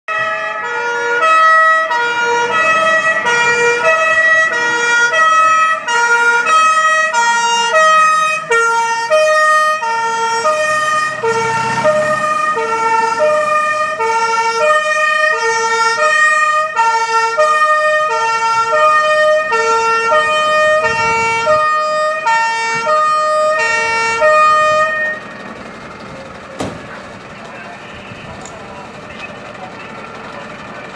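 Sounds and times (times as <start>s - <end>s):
two-tone fire engine horn: 0.1s - 25.5s
truck engine running: 0.2s - 30.9s.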